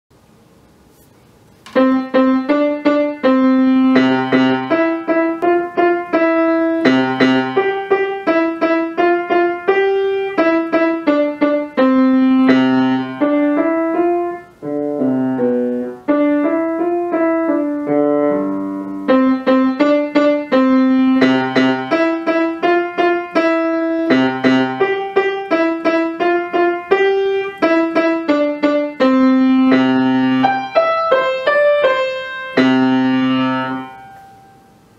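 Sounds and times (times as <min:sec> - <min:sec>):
grand piano playing: 0:01.7 - 0:34.8.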